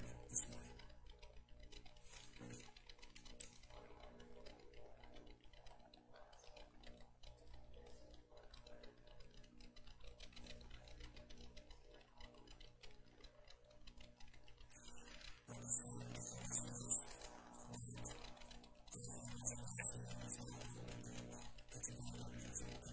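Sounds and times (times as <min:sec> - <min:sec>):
faint steady hum: 0:00.0 - 0:22.9
faint ticks: 0:00.0 - 0:22.9.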